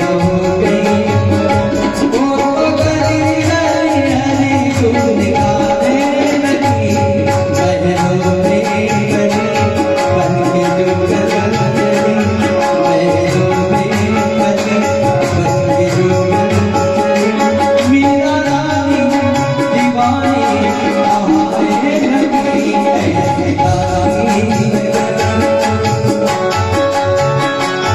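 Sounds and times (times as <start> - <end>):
devotional music: 0.0 - 27.9
tabla: 0.0 - 27.9.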